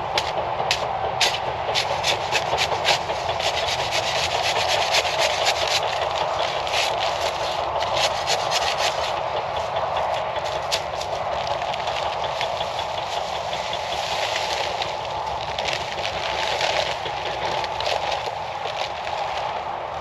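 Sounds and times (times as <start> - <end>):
rapid clicks and rattles: 0.0 - 20.0
tractor diesel engine running: 0.0 - 20.0.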